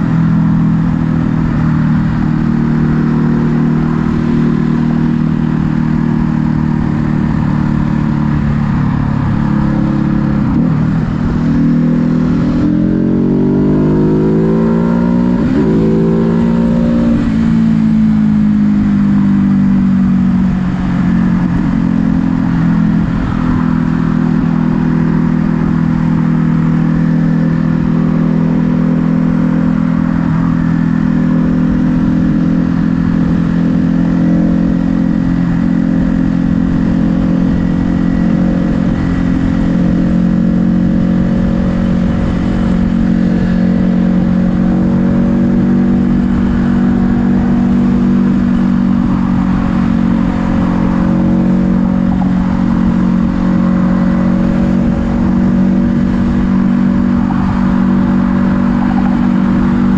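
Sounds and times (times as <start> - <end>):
motorcycle engine running steadily: 0.0 - 59.9.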